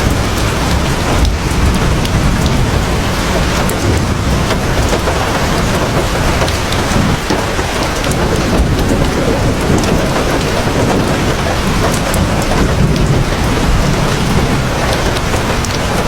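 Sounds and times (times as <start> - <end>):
deep low rumble: 0.0 - 16.0
heavy rain pouring: 0.0 - 16.0.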